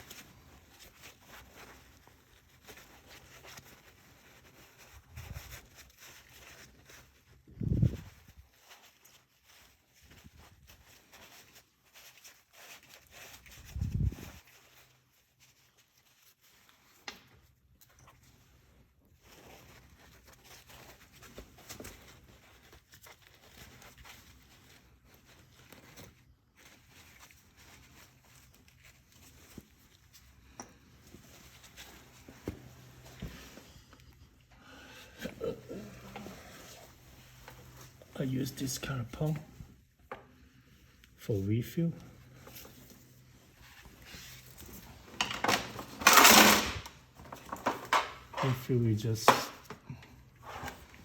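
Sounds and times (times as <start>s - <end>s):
soft scrapes and rustles: 0.0s - 46.2s, 46.9s - 51.0s.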